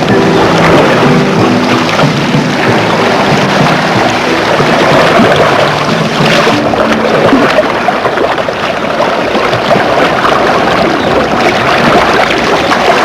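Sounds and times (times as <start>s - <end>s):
water splashing and rushing: 0.0s - 13.0s.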